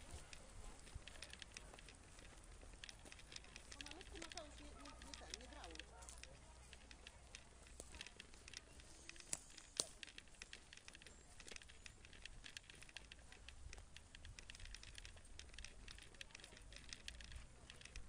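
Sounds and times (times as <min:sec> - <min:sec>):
footsteps on dirt path: 0:00.0 - 0:18.0
sharp clicks: 0:00.0 - 0:18.0.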